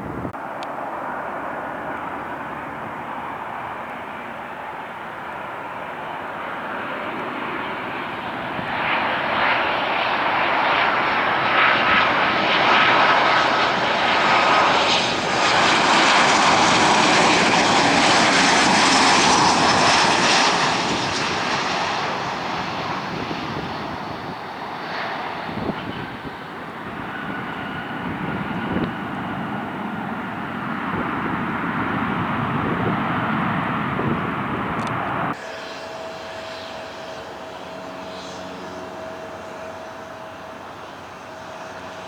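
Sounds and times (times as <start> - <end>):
high engine whine: 0.0 - 42.0
jet airliner passing by: 0.0 - 42.0.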